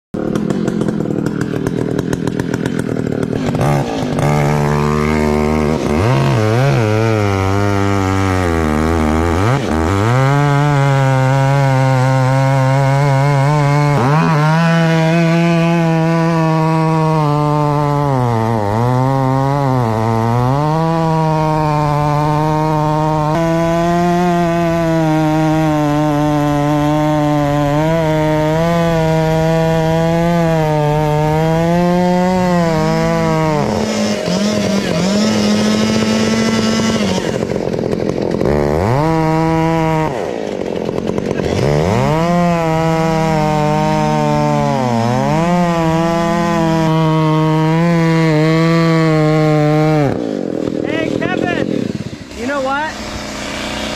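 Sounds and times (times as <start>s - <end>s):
chainsaw engine revving: 0.2s - 53.9s.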